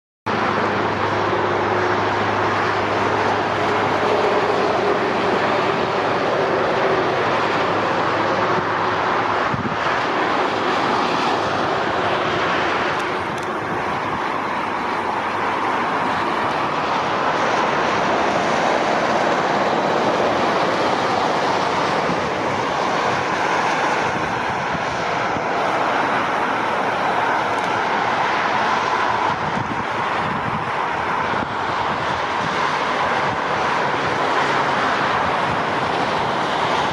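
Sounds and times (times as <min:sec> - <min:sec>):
motorway traffic rushing: 0:00.3 - 0:36.9.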